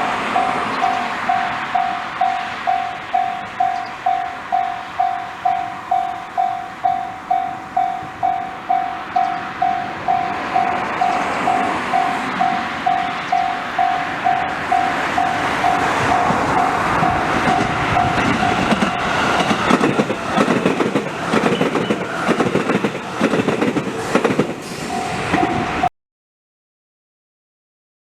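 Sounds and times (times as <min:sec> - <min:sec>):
approaching train: 0:00.0 - 0:25.9
level-crossing warning bell: 0:00.0 - 0:25.9
train wheels clattering: 0:00.0 - 0:25.9.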